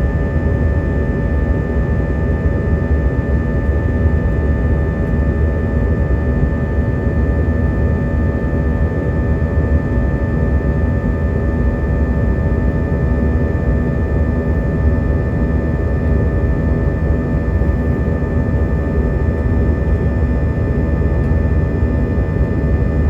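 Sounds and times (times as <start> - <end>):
jet engine roar in cabin: 0.0 - 23.0
whining fan tones: 0.0 - 23.0.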